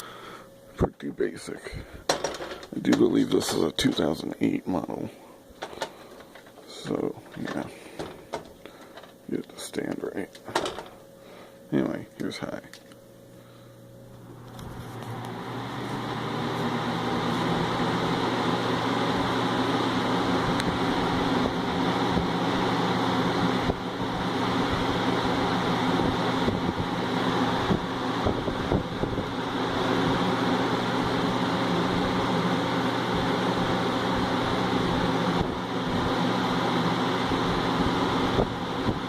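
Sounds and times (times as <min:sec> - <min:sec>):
electric fan running: 0:00.0 - 0:39.0.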